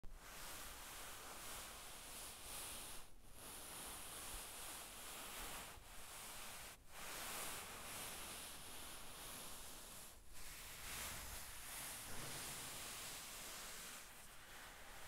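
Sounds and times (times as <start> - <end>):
hand rubbing fabric: 0.2 - 15.0.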